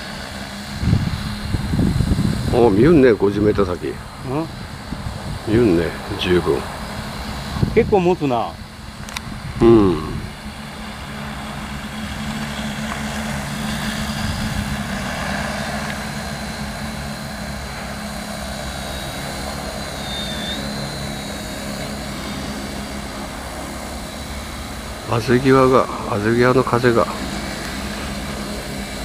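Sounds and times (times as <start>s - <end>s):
drone rotors humming: 0.0s - 29.0s.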